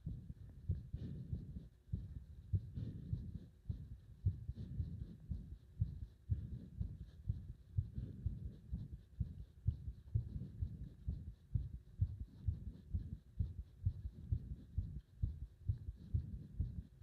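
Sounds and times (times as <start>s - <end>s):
heartbeat thuds: 0.0s - 17.0s.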